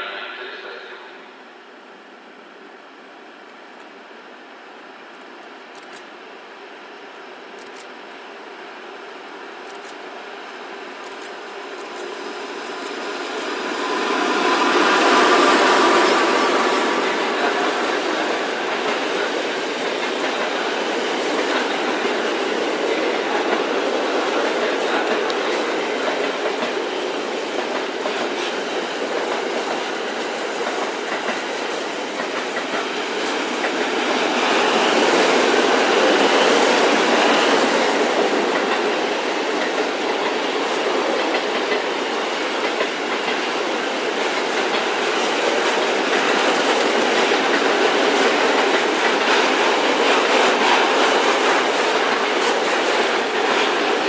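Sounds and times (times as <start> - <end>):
freight train passing: 0.0 - 54.0
wheel and rail noise: 3.1 - 54.0.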